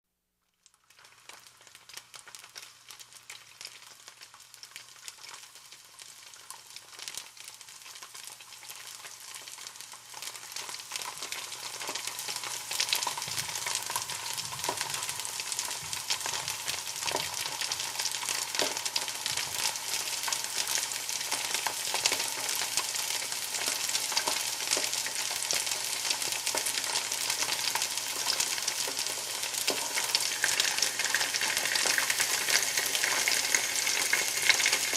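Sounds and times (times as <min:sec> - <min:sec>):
food sizzling in hot oil: 0:00.5 - 0:34.9.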